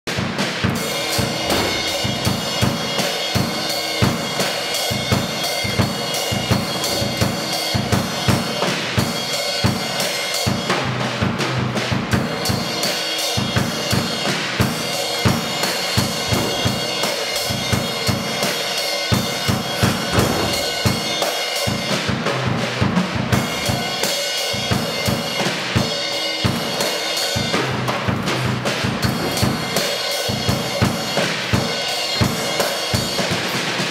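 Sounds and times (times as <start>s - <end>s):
drum kit solo: 0.1s - 33.9s.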